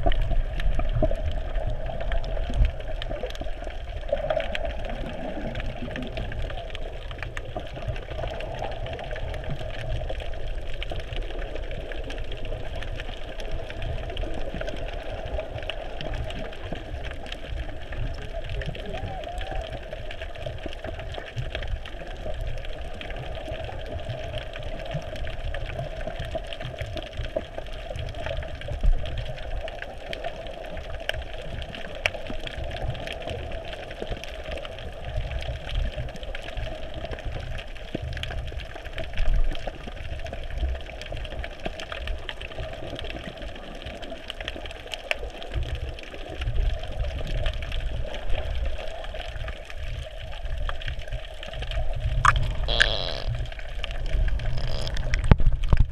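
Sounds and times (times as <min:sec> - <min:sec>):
underwater low rumble and hum: 0:00.0 - 0:55.9
faint clicks: 0:01.9 - 0:55.9.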